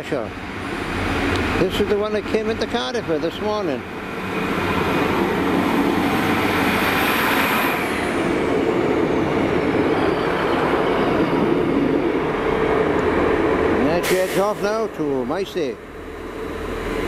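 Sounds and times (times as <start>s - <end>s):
diesel train engine running: 0.0s - 17.0s
train wheels rolling on rails: 0.0s - 17.0s.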